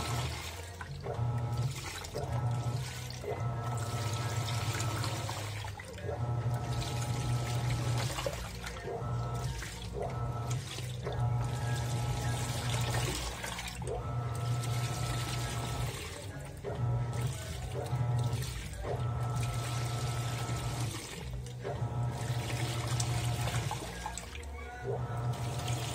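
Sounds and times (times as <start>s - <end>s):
washing machine motor whining: 0.0s - 25.9s
water sloshing: 0.0s - 25.9s.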